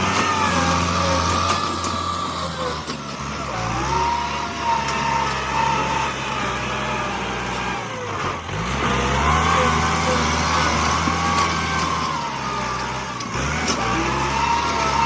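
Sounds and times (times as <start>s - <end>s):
bulldozer diesel engine revving: 0.0s - 15.0s.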